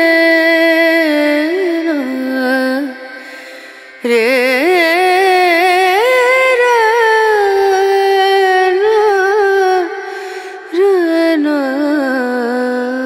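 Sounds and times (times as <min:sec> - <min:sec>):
person singing slow melody: 0:00.0 - 0:13.0.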